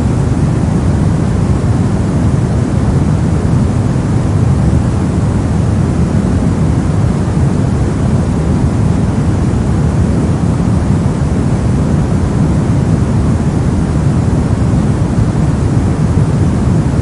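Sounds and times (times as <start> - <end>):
white noise: 0.0 - 17.0.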